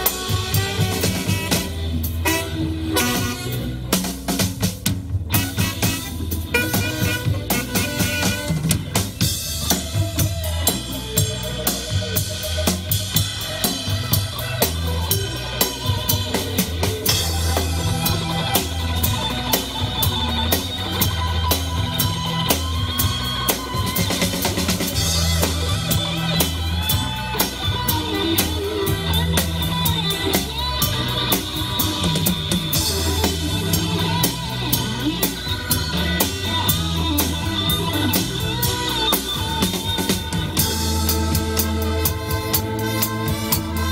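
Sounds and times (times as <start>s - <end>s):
saxophones: 0.0s - 4.3s, 5.3s - 43.9s
bass: 0.0s - 43.9s
drum beat: 0.0s - 43.9s
keyboard: 0.0s - 43.9s.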